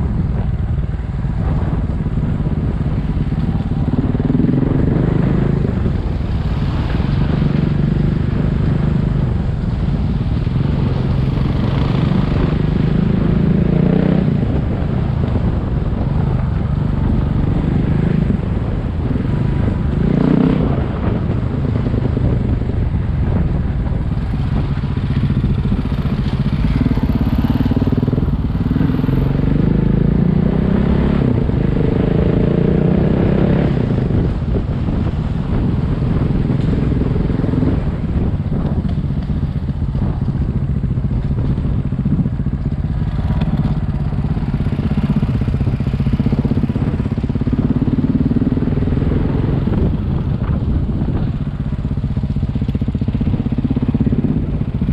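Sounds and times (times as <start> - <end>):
motorcycle engine revving: 0.0 - 54.9
wind rumble on microphone: 0.0 - 54.9.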